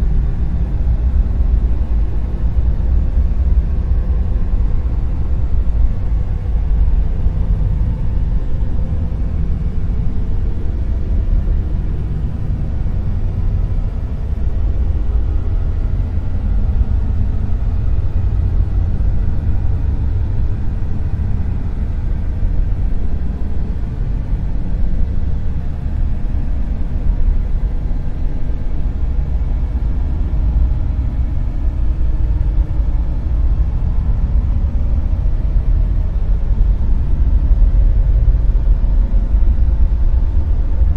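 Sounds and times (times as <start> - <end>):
deep rumbling hiss: 0.0 - 40.9.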